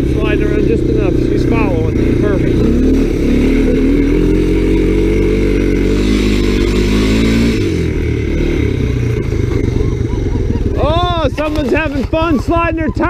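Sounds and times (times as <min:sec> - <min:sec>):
three-wheeler engine running hard: 0:00.0 - 0:13.0.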